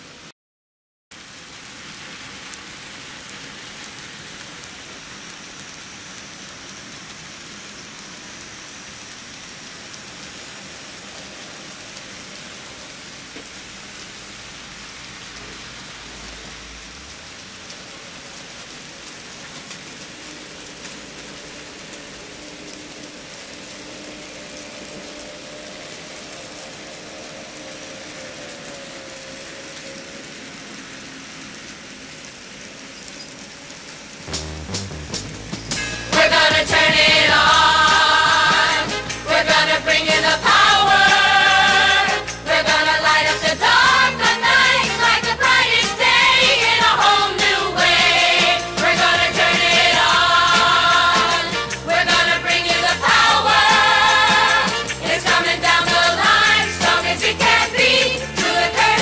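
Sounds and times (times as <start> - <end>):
steady hiss: 1.2 - 59.0.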